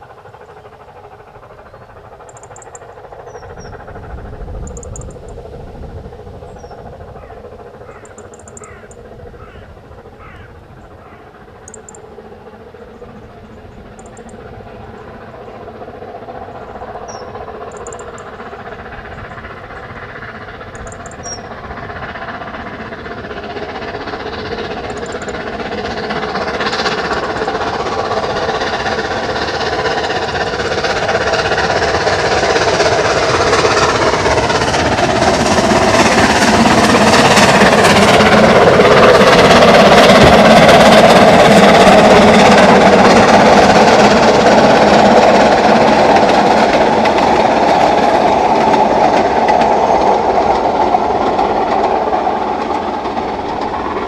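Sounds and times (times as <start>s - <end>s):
steam train passing: 0.0s - 54.0s.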